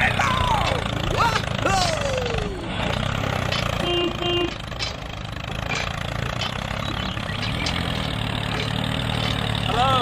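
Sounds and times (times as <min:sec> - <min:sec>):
tractor engine chugging: 0:00.0 - 0:10.0.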